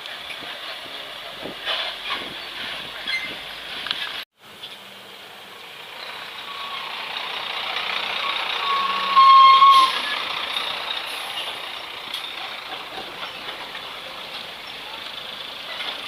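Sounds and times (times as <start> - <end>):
heavy road vehicle rushing hiss: 0.0 - 13.0.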